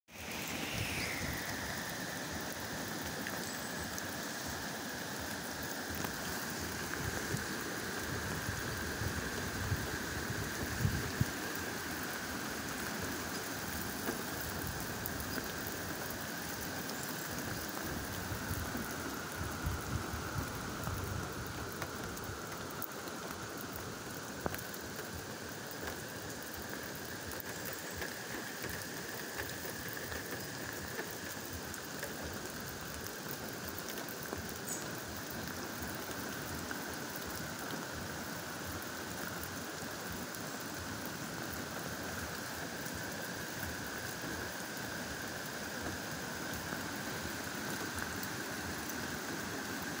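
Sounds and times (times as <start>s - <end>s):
heavy rain on grass and leaves: 0.1s - 50.0s
small water drips: 0.1s - 50.0s.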